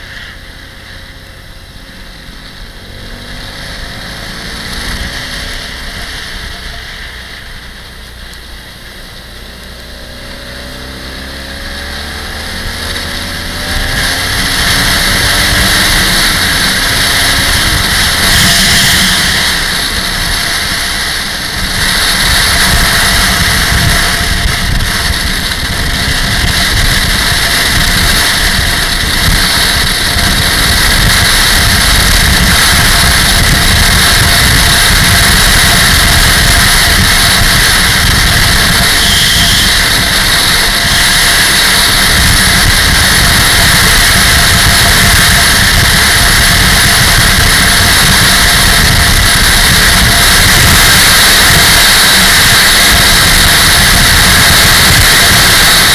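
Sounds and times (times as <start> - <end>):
motorcycle engine running: 0.0 - 55.9
wind rushing on microphone: 2.8 - 55.9.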